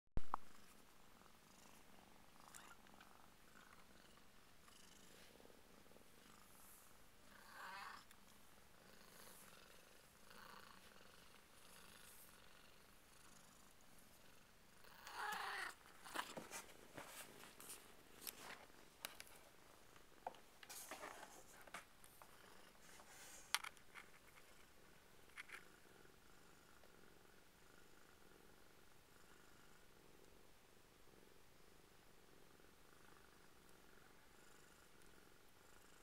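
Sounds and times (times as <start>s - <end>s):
cat purring: 0.3s - 36.0s.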